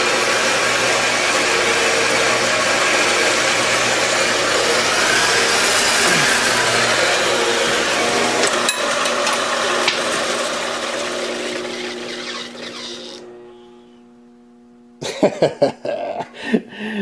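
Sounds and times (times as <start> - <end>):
band saw cutting metal: 0.0 - 13.8
motor hum: 0.0 - 15.6.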